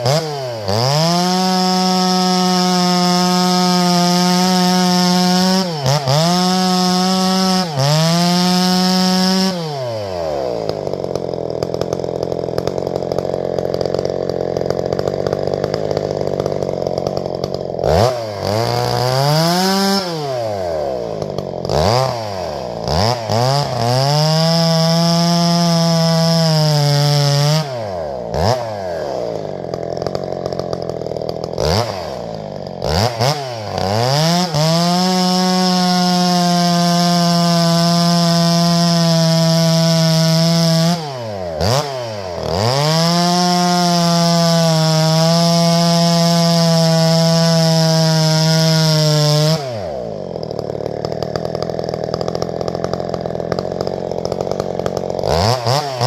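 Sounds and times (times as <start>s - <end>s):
chainsaw sawing wood: 0.0s - 56.0s.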